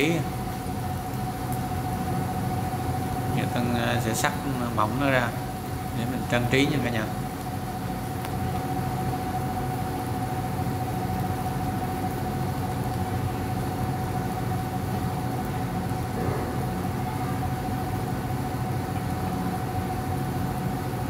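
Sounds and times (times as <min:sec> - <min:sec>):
chicken frying in a skillet: 0:00.0 - 0:21.0
constant high whine: 0:00.0 - 0:21.0
induction cooktop hum and hiss: 0:00.0 - 0:21.0.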